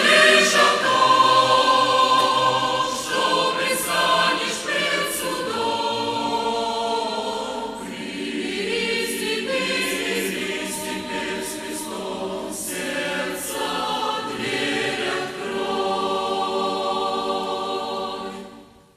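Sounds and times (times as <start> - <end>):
choir singing a hymn: 0.0 - 18.9.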